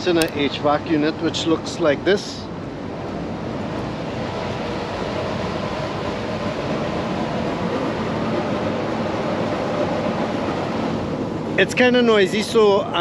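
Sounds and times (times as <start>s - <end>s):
fan air rushing: 0.0s - 13.0s.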